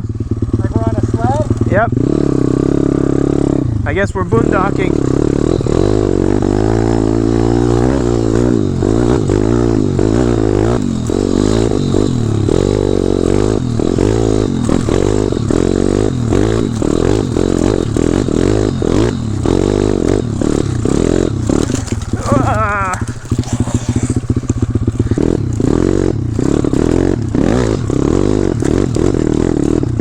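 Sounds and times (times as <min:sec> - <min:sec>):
bike knocks and rattles: 0:00.0 - 0:02.8, 0:04.1 - 0:30.0
dirt bike engine revving: 0:00.0 - 0:30.0.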